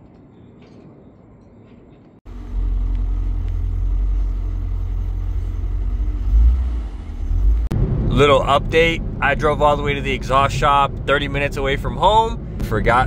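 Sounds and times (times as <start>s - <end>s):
car engine idling: 2.3s - 13.0s.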